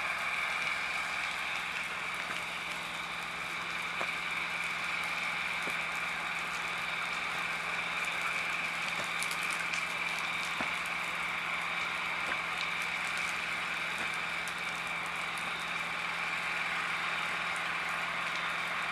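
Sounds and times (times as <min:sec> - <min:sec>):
dry grass burning crackles: 0:00.0 - 0:18.9
low engine hum: 0:00.0 - 0:18.9.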